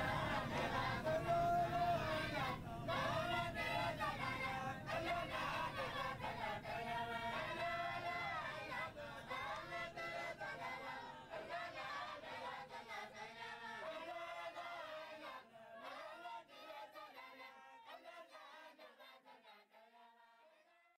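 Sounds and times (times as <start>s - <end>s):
chorus chanting devotional song: 0.0s - 20.8s.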